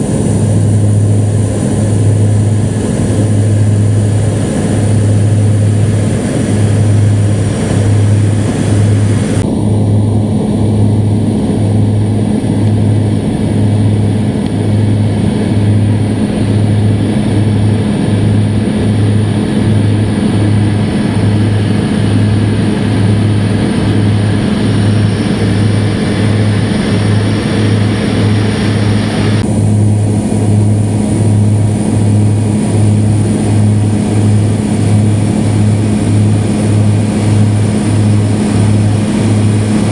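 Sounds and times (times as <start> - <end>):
propeller airplane engine drone: 0.0 - 39.9.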